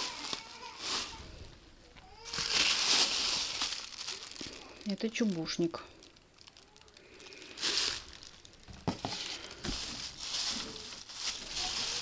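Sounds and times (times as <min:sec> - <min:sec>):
plastic packets crinkling: 0:00.0 - 0:12.0.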